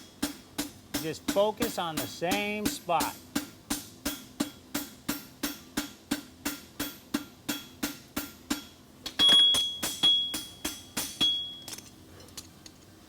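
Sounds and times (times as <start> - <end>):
hammer striking metal on anvil: 0.0 - 11.9.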